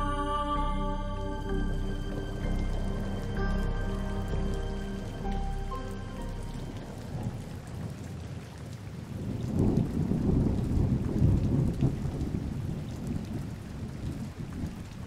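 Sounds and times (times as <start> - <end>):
steady rain falling: 0.0 - 15.0
thunder rolling: 1.7 - 15.0.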